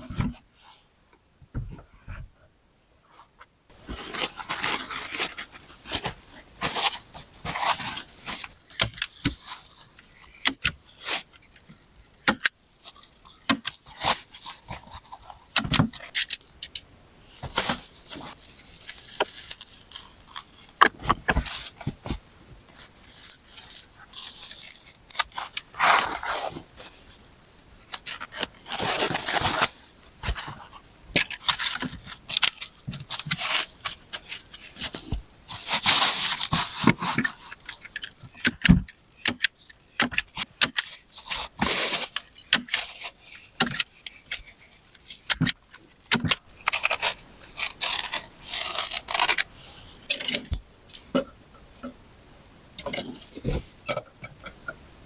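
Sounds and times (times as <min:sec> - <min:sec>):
material rustling and scraping: 0:03.0 - 0:16.4, 0:17.2 - 0:50.6, 0:52.9 - 0:54.0.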